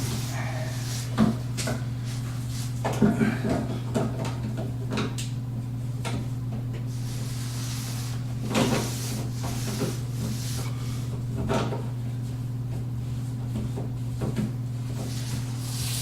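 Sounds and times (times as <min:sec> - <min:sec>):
steady low hum: 0:00.0 - 0:04.9, 0:05.5 - 0:16.0.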